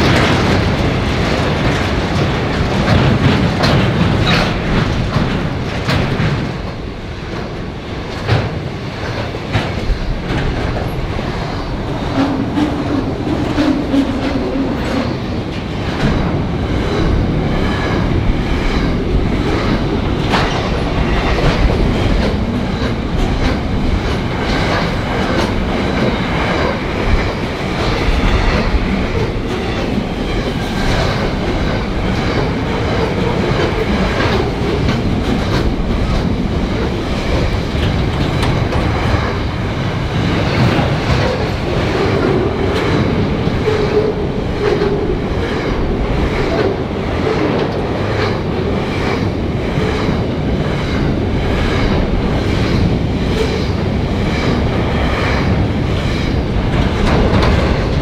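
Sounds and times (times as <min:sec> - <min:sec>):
train wheels rumbling on rail: 0:00.0 - 0:58.0
wheels clacking over rail joints: 0:00.0 - 0:58.0.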